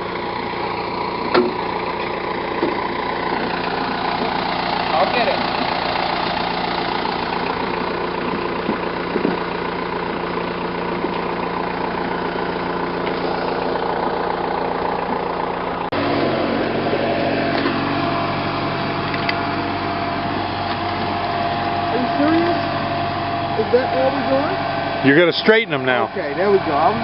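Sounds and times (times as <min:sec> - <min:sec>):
low engine hum: 0:00.0 - 0:27.0
tractor engine running: 0:00.0 - 0:27.0.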